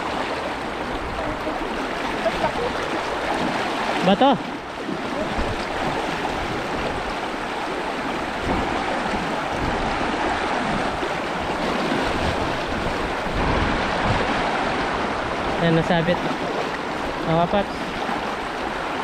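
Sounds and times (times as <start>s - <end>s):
river current rushing: 0.0s - 19.0s.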